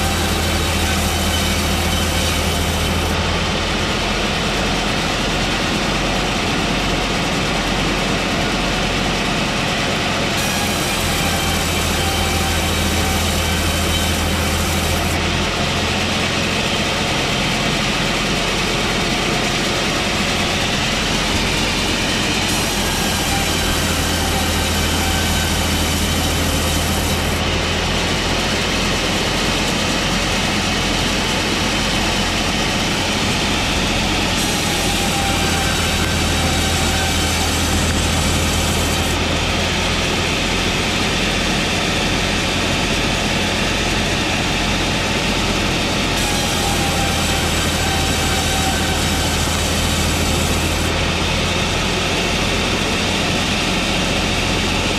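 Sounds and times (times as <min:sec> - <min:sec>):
electric saw running: 0:00.0 - 0:06.4, 0:08.4 - 0:54.9.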